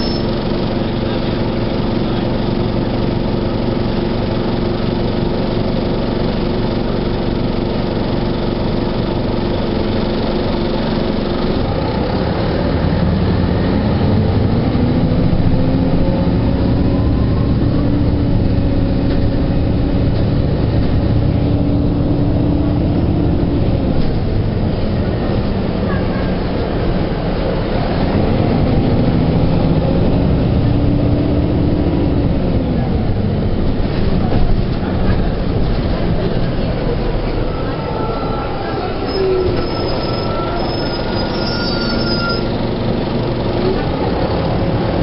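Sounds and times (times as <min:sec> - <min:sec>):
bus accelerating: 0:00.0 - 0:45.0
diesel bus engine idling: 0:00.0 - 0:45.0.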